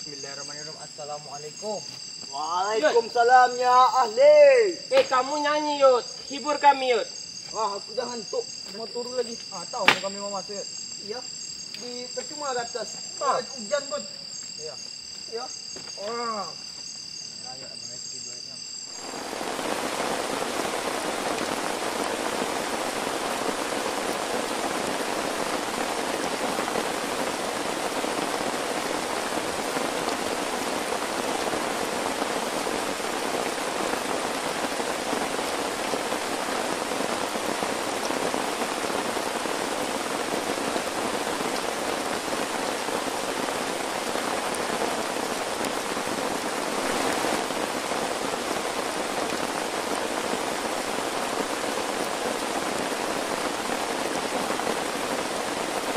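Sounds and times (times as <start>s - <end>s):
heavy rain on a tent: 0.0s - 55.9s.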